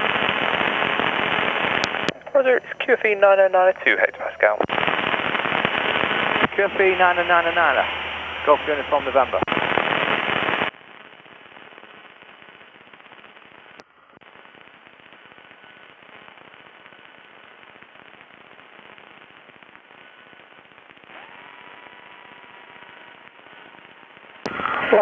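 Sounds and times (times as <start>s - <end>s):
radio static crackling: 0.0s - 25.0s.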